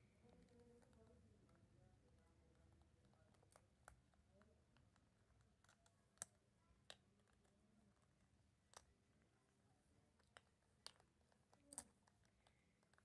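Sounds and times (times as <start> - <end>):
faint sharp clicks and taps: 0.0 - 13.0.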